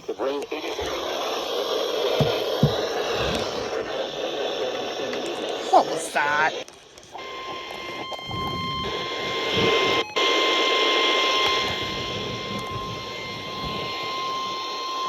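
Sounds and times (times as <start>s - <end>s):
harsh static hiss: 0.0s - 15.0s.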